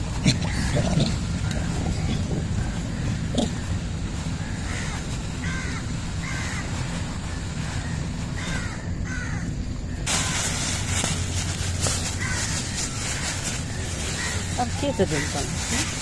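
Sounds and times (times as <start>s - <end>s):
low outdoor background: 0.0s - 16.0s
rushing noise: 0.0s - 16.0s
crows cawing: 0.4s - 10.8s, 11.5s - 16.0s.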